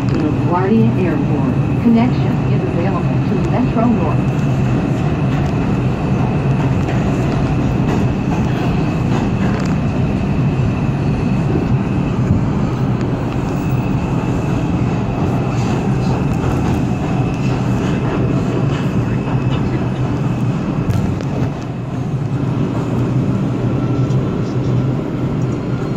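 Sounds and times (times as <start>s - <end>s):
subway train rumbling in tunnel: 0.0s - 25.9s.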